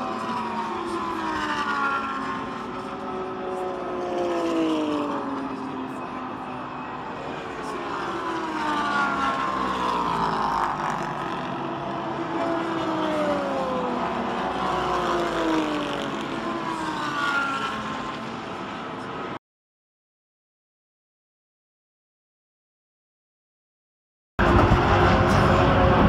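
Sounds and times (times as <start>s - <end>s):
race cars passing by: 0.0s - 19.4s, 24.4s - 26.0s.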